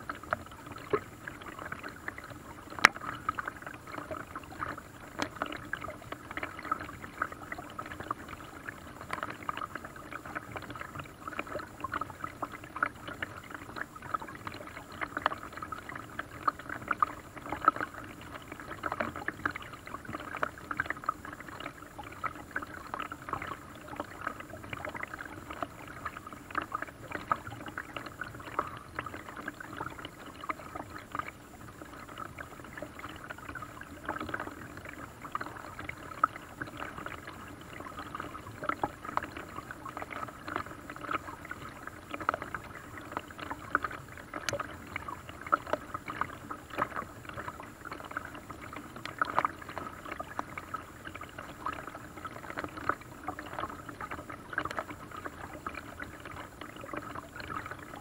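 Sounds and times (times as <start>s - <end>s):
paddle splashing water: 0.0s - 58.0s
water lapping against hull: 0.0s - 58.0s.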